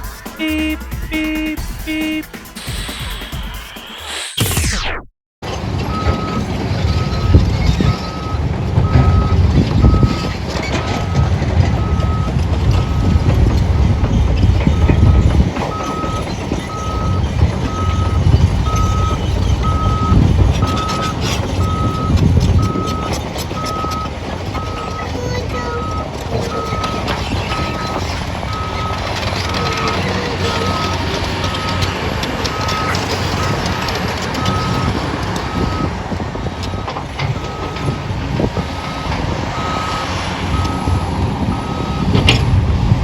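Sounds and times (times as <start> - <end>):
truck backup alarm beeping: 0.0 - 3.4, 5.8 - 42.6
diesel engine rumble: 5.4 - 43.0.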